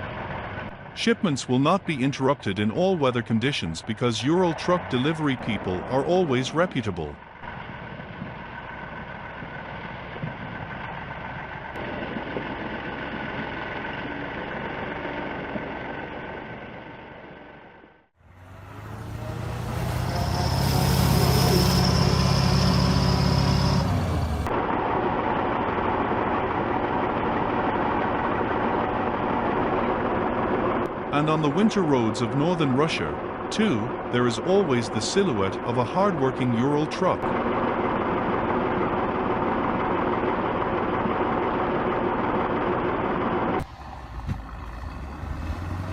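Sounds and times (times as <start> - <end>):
deep loud engine: 0.0 - 45.9
heavy truck engine running: 0.0 - 45.9.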